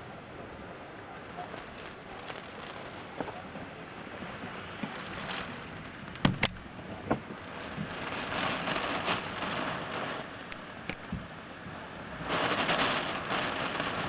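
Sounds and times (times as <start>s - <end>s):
wind and rain through window: 0.0s - 14.0s.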